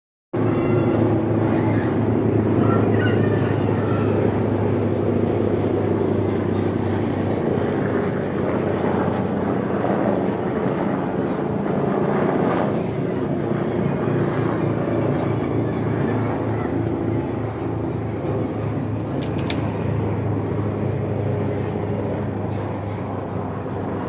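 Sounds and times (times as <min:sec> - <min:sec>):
helicopter rotor chopping: 0:00.4 - 0:24.0.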